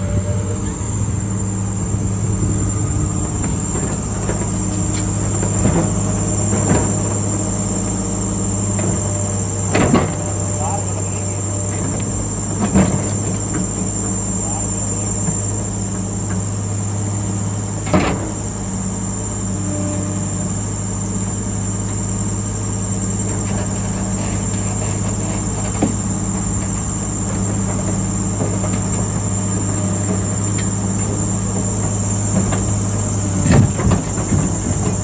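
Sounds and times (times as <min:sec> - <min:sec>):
heavy diesel machine running: 0:00.0 - 0:35.0
high insect trill: 0:00.1 - 0:35.0.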